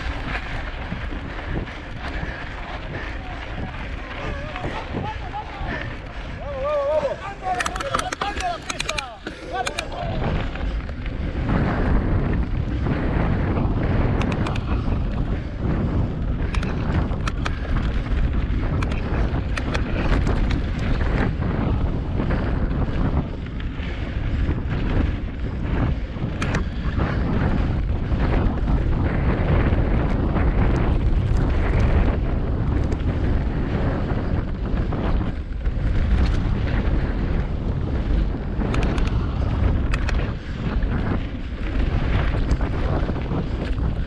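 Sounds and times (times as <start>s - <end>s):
bike clicks and rattles: 0.0s - 44.0s
bike tyres rumbling on gravel: 0.0s - 44.0s
wind buffeting microphone: 0.0s - 44.0s.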